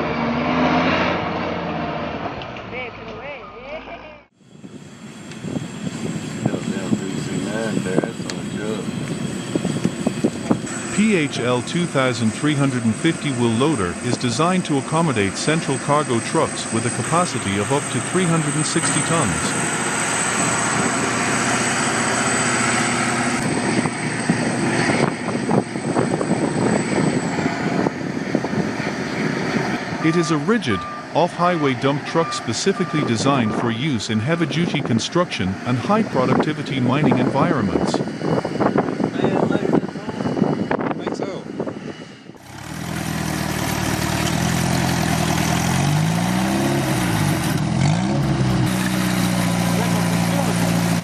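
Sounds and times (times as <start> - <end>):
diesel engine drone: 0.0 - 51.0
high whine: 4.3 - 51.0.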